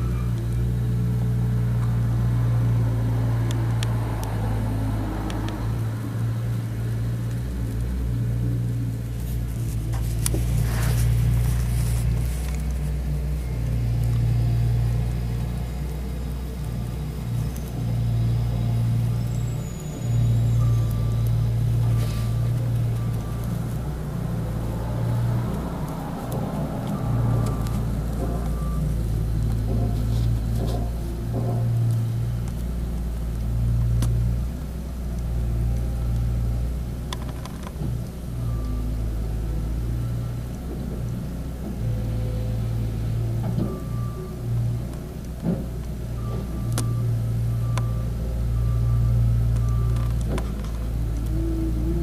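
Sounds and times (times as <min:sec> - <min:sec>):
loader engine running: 0:00.0 - 0:52.0.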